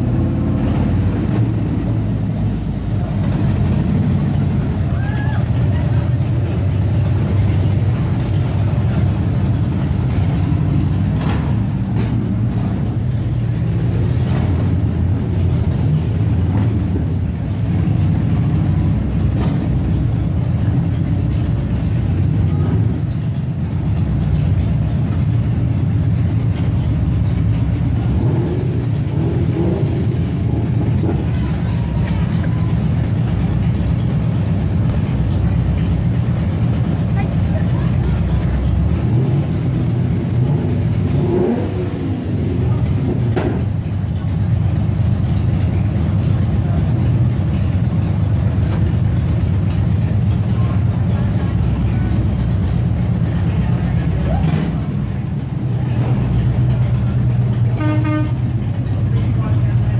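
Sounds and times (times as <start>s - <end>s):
motorcycles idling: 0.0s - 59.9s.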